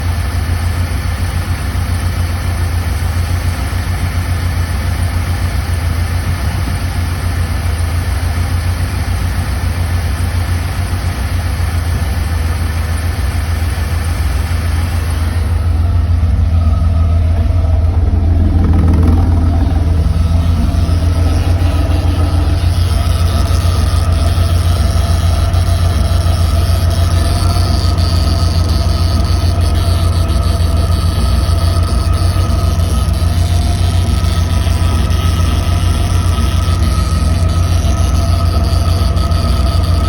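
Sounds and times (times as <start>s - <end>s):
fuel pump drone: 0.0s - 40.0s.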